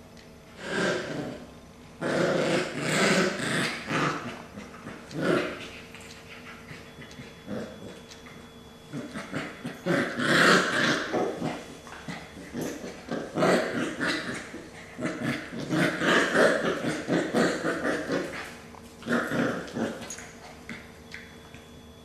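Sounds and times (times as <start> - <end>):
puppy vocalizing: 2.0 - 21.4.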